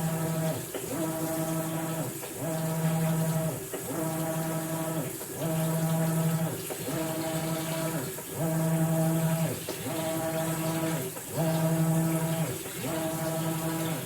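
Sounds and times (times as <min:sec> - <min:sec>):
washing machine motor humming: 0:00.0 - 0:14.0.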